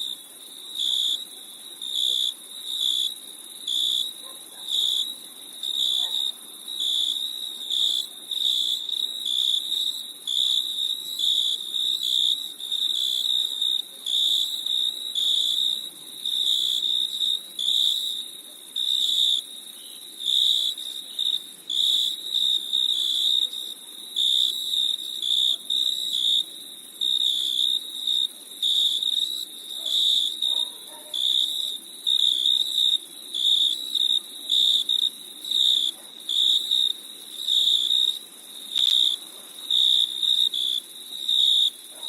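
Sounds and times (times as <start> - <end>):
crickets chirping: 0.0 - 42.0
faint steady hiss: 0.0 - 42.0.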